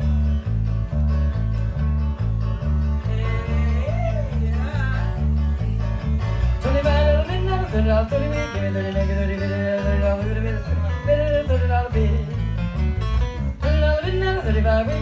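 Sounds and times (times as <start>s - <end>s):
band playing country song: 0.0s - 15.0s.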